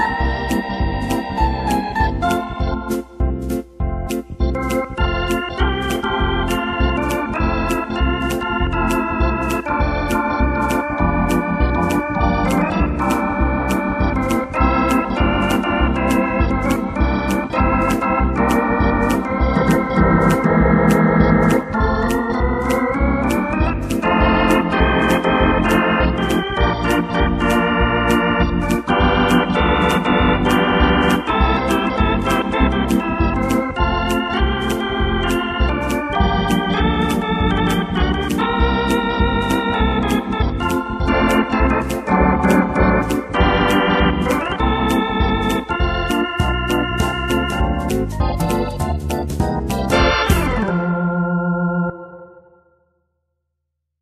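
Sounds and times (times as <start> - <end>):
auto-accompaniment beat: 0.0 - 52.0
keyboard organ chords and melody: 0.0 - 52.8.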